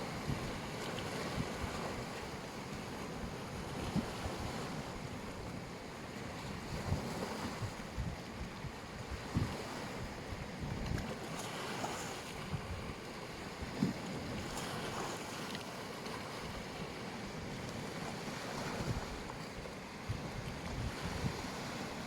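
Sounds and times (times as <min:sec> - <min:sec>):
wind buffeting microphone: 0:00.0 - 0:05.6, 0:06.3 - 0:15.5, 0:16.2 - 0:19.4, 0:20.0 - 0:22.0
sea waves washing onto beach: 0:00.0 - 0:22.0.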